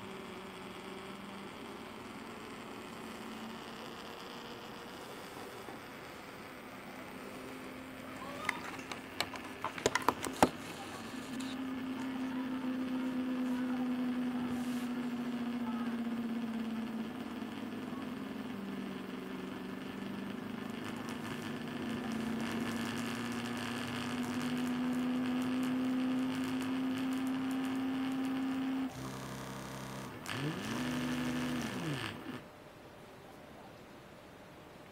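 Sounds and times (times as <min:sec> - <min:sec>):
stepper motors whining: 0:00.0 - 0:32.5.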